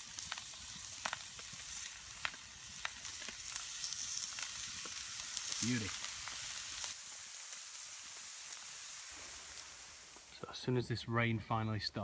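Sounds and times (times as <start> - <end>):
sharp pops and crackles: 0.0 - 10.4
bacon sizzling: 0.0 - 10.5.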